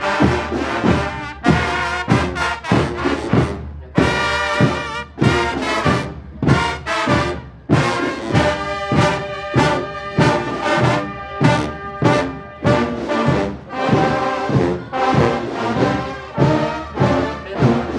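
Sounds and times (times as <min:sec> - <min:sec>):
brass band playing: 0:00.0 - 0:17.9.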